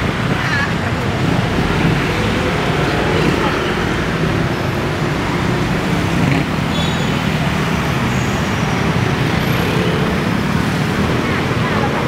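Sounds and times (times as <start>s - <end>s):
dense city traffic: 0.0s - 12.0s.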